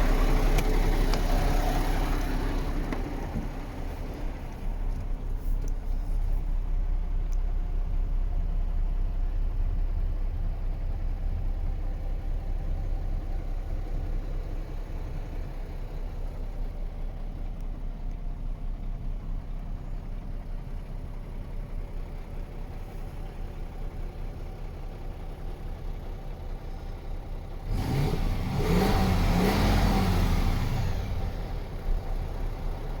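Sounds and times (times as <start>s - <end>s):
truck diesel engine idling and revving: 0.0s - 33.0s.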